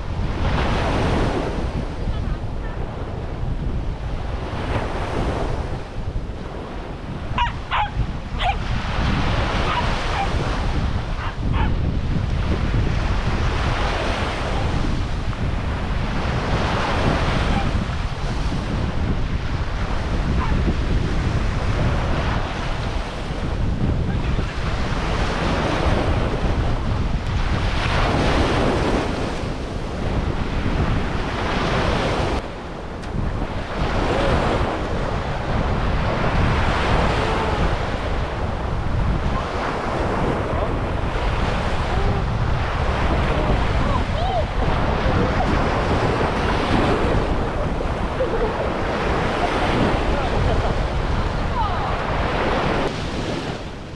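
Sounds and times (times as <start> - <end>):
sea waves breaking on beach: 0.0 - 53.9
wind buffeting microphone: 0.0 - 53.9.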